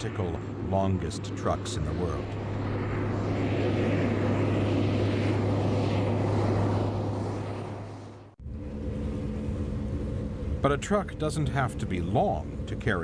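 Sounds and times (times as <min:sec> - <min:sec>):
aircraft engine drone: 0:00.0 - 0:13.0
different engine hum: 0:00.0 - 0:13.0.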